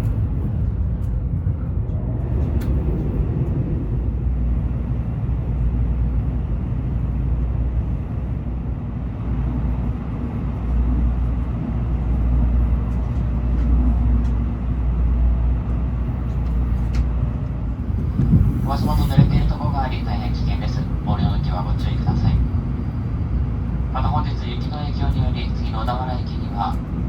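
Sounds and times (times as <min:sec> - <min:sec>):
train rumble inside cabin: 0:00.0 - 0:27.0.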